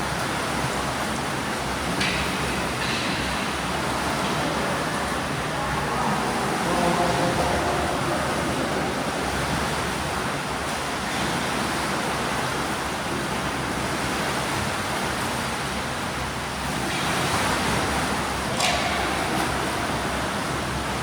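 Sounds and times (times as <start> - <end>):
water splashing from swimmers: 0.0 - 21.0.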